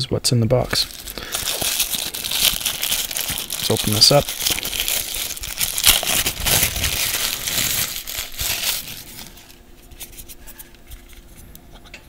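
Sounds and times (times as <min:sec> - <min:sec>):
plastic wrapping crinkling: 0:00.7 - 0:11.3.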